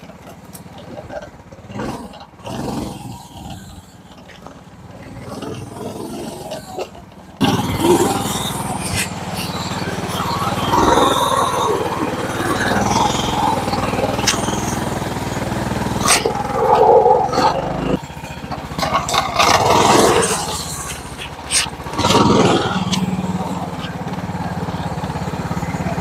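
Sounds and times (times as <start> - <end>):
golf cart engine running: 0.0 - 26.0.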